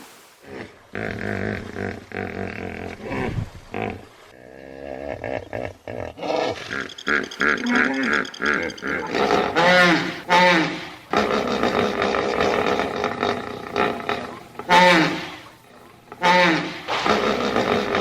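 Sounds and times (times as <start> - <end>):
hippopotamus grunting and honking: 0.4 - 18.0.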